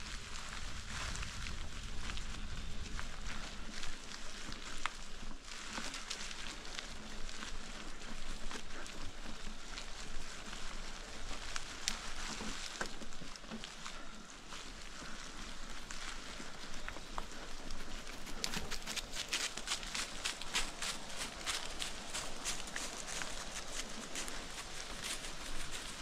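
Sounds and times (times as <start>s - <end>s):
bicycle tyres crackling on leaves: 0.0s - 26.0s.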